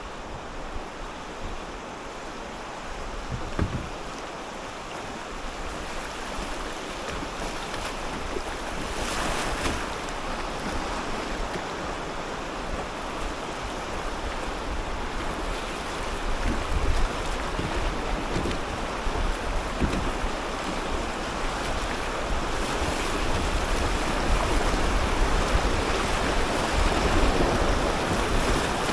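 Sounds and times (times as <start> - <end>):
river water rushing and splashing: 0.0 - 28.9
wind buffeting microphone: 5.5 - 28.9.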